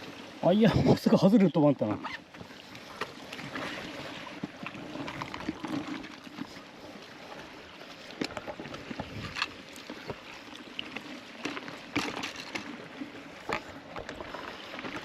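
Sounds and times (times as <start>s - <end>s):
sea water sloshing and lapping: 0.0s - 15.0s.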